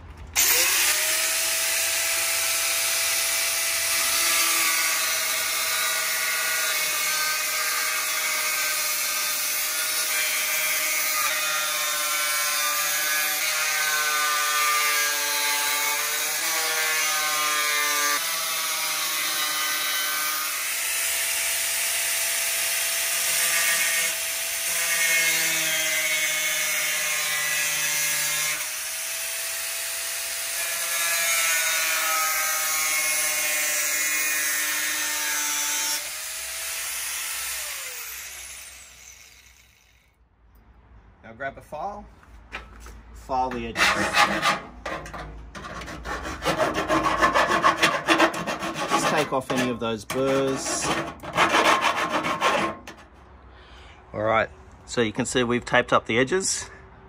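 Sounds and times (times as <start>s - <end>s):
angle grinder cutting metal: 0.4s - 40.2s, 43.6s - 53.0s.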